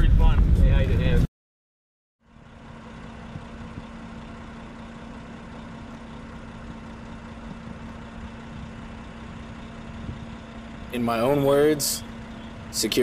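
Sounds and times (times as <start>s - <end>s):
engine humming: 2.2s - 13.0s.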